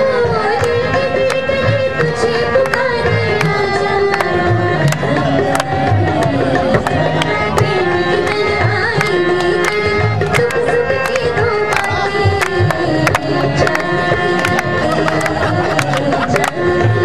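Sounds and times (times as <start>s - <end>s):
song with tabla drumming: 0.0s - 17.0s.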